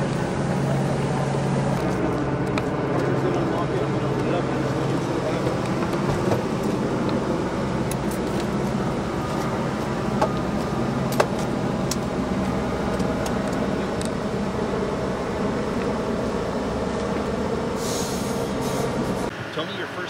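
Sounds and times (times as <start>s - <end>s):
vehicle engines idling: 0.0s - 20.0s.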